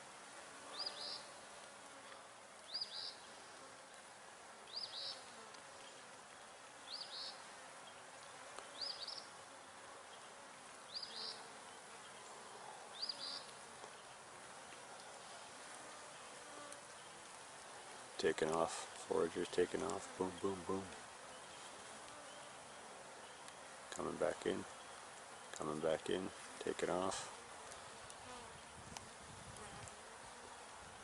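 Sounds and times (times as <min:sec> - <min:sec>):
bees buzzing: 0:04.7 - 0:31.0.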